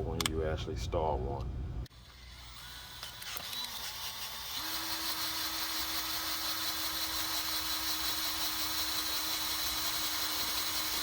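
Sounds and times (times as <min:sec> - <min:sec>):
drill running: 0:02.0 - 0:11.0.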